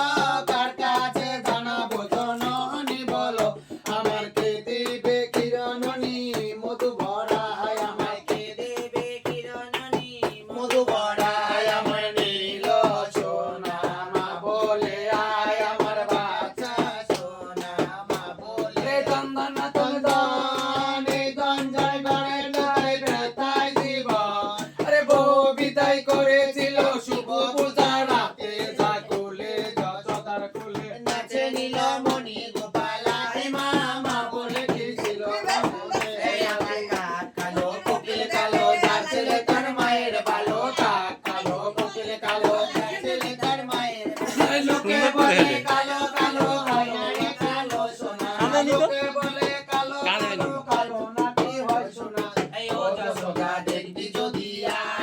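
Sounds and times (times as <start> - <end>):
person singing with music: 0.0 - 55.0
sharp rhythmic claps: 0.0 - 55.0.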